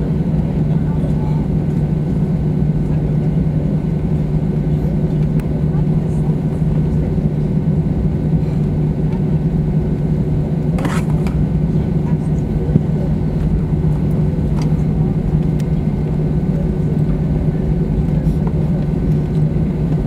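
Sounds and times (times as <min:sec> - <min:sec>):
jet engines idling hum: 0:00.0 - 0:20.0.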